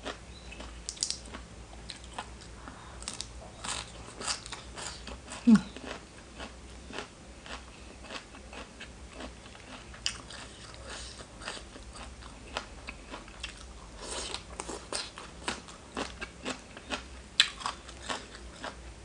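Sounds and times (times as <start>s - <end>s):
person chewing crunchy food: 0.0s - 18.8s.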